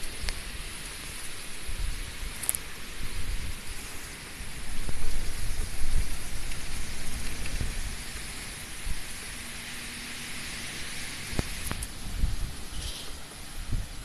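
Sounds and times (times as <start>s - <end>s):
steady rain hiss: 0.0s - 14.0s
wind gusting on microphone: 0.0s - 14.0s.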